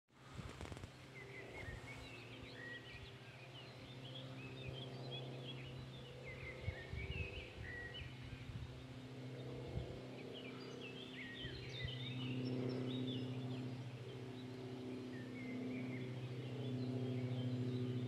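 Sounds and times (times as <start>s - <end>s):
propeller plane droning: 0.2s - 18.0s
small birds chirping: 0.4s - 18.0s.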